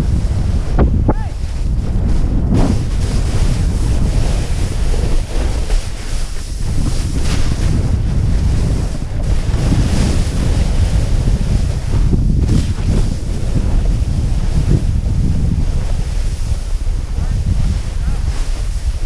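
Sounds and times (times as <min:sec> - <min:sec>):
snowboard scraping over snow: 0:00.0 - 0:19.0
wind buffeting microphone: 0:00.0 - 0:19.0.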